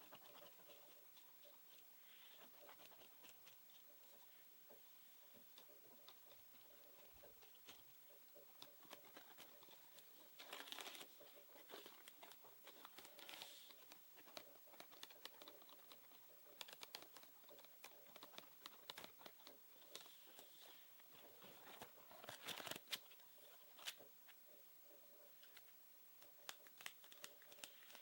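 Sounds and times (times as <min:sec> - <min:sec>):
crinkly rustling: 0:00.0 - 0:24.5, 0:25.4 - 0:28.0.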